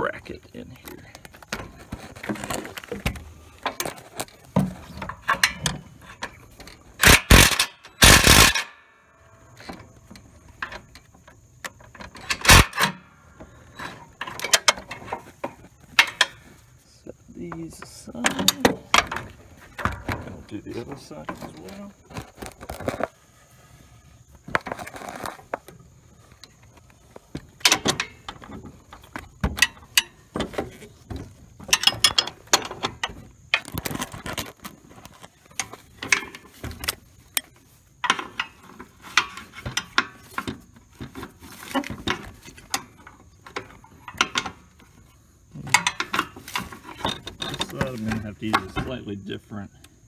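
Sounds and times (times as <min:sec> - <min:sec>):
metal clinks and knocks: 0:00.8 - 0:16.7, 0:24.6 - 0:49.3.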